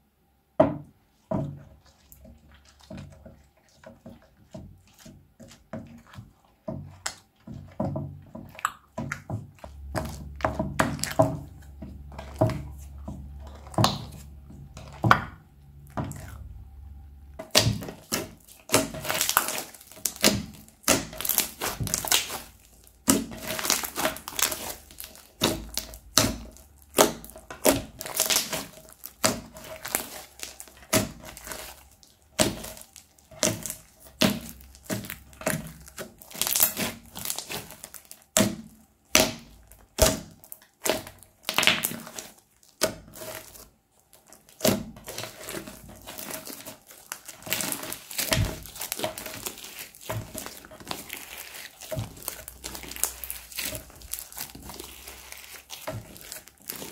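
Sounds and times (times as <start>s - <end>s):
spatula stirring crunchy slime: 0.6s - 56.9s
slime crackling when kneaded: 1.4s - 56.9s.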